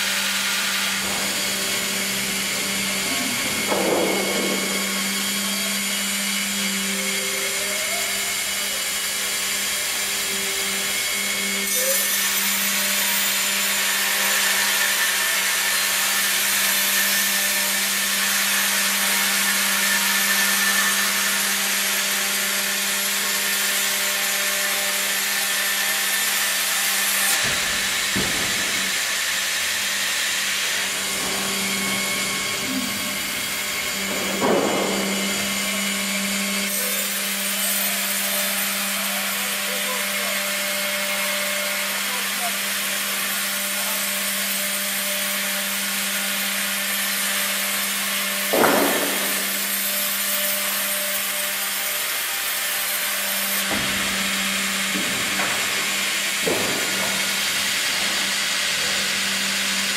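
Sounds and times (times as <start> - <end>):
saw drive hum: 0.0 - 42.2, 47.7 - 59.9
band saw cutting log: 0.0 - 59.9.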